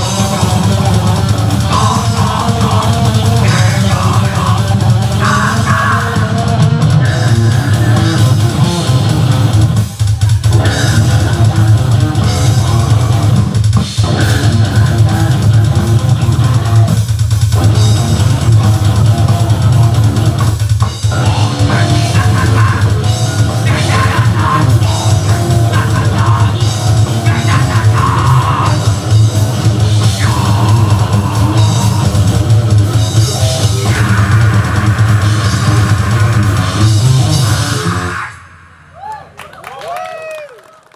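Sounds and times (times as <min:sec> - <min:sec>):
heavy metal band playing: 0:00.0 - 0:38.9.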